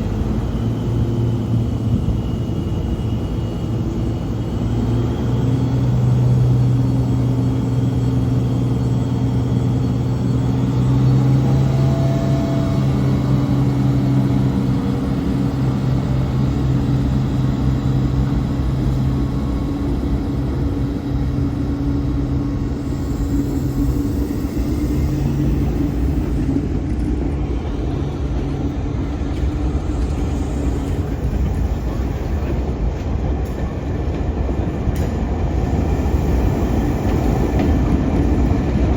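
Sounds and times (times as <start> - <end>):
locomotive engine humming: 0.0 - 38.9
train rumbling: 0.0 - 38.9.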